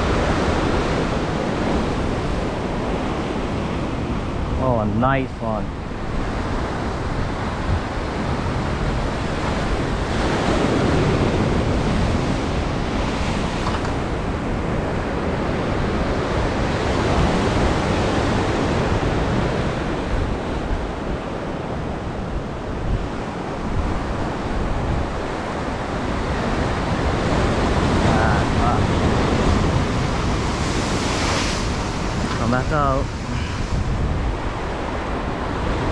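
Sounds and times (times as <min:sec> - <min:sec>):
ocean surf washing ashore: 0:00.0 - 0:35.9
wind buffeting microphone: 0:00.0 - 0:35.9.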